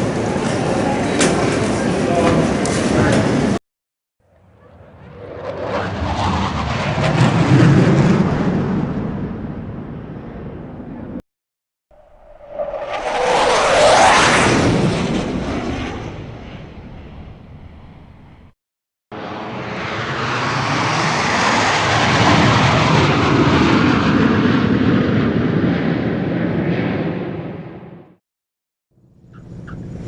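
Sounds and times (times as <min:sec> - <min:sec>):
airplane engine noise: 0:00.0 - 0:03.6, 0:04.3 - 0:11.2, 0:11.9 - 0:28.2, 0:29.0 - 0:30.0
airplane engine pass-by: 0:00.0 - 0:03.6, 0:04.3 - 0:11.2, 0:12.0 - 0:18.6, 0:19.2 - 0:28.2, 0:29.0 - 0:30.0.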